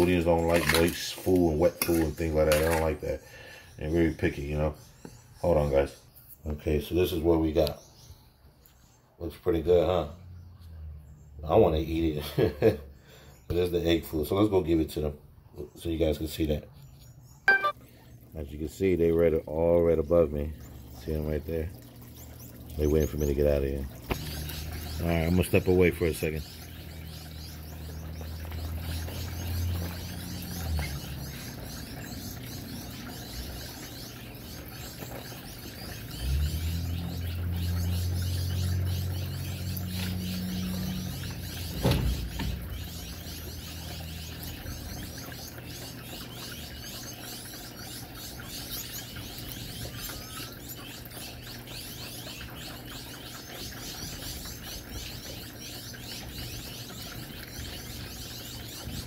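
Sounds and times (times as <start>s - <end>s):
finches chirping and twittering: 0.0s - 18.2s, 18.8s - 59.0s.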